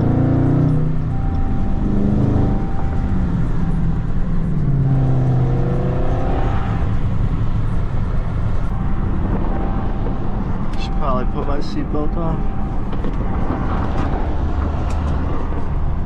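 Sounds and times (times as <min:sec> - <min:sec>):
car engine accelerating: 0:00.0 - 0:16.0
road noise: 0:00.0 - 0:16.0.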